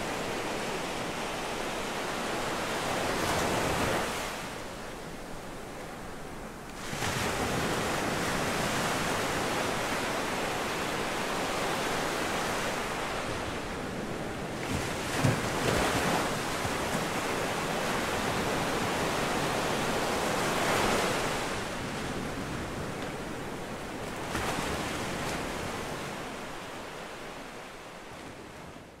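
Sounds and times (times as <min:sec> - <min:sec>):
sea waves breaking on shore: 0:00.0 - 0:29.0.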